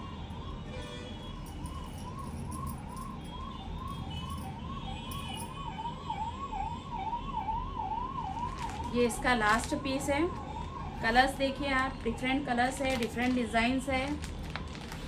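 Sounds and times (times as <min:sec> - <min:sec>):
emergency siren: 0:00.0 - 0:15.0.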